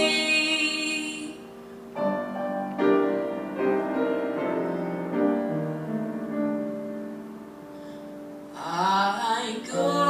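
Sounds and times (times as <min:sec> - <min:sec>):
piano chords ringing: 0:00.0 - 0:10.0.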